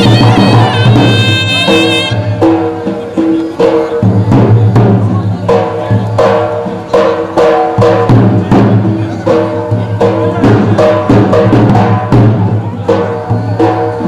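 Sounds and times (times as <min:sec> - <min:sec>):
drum beat: 0:00.0 - 0:14.0.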